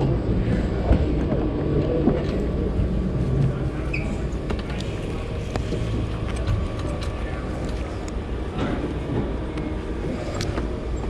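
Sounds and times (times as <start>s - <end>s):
low rumble and hum: 0.0s - 11.0s.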